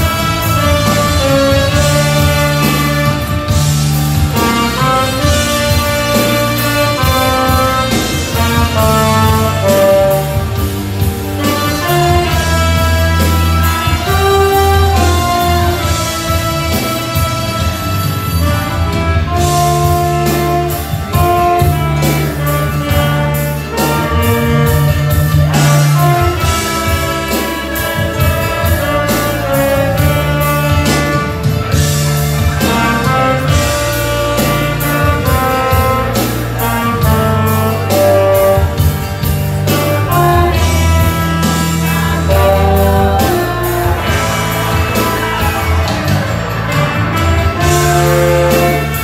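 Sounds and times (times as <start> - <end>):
alto saxophone hymn melody: 0.0 - 49.0
backing track with bass and beat: 0.0 - 49.0.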